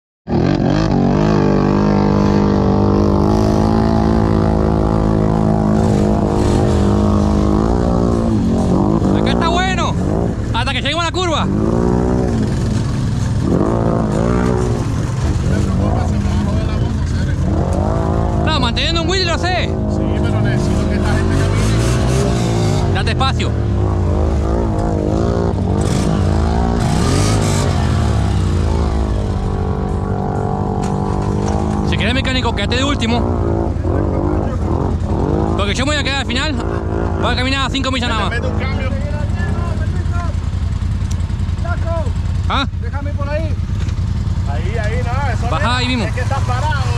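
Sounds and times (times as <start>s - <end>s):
atv engine running: 0.3s - 46.9s.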